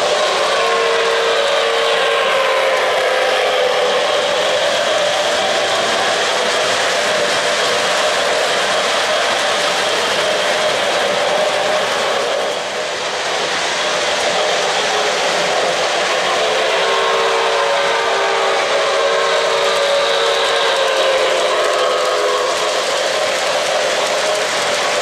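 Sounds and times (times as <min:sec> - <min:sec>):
model trains rumbling on track: 0:00.0 - 0:25.0.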